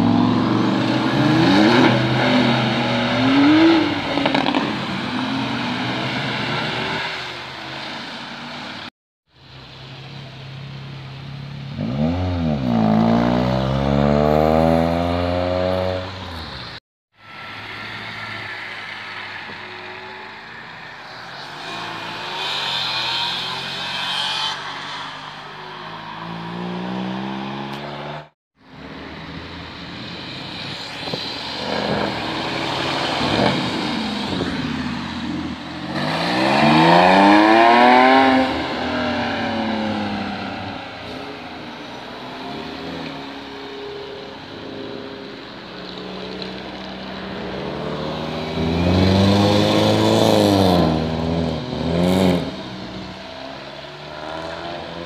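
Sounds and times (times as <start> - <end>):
cars revving and driving off: 0.0 - 55.0.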